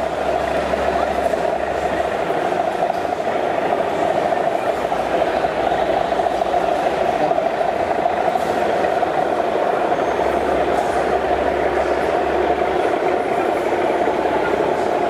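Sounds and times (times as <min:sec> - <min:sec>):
hall chatter: 0:00.0 - 0:15.0
model trains rumbling on track: 0:00.0 - 0:15.0.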